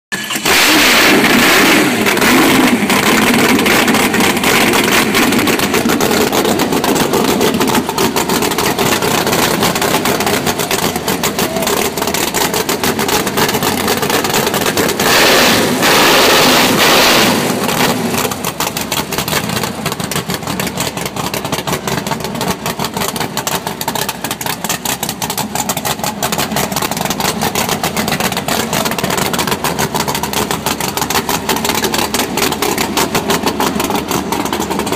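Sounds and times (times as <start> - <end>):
loud engine revving and idling: 0.1 - 34.9.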